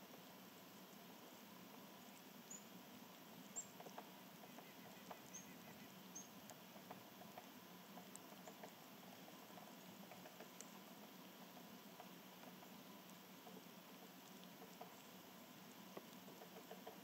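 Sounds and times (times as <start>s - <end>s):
birds pecking seed on feeder: 1.4s - 17.0s.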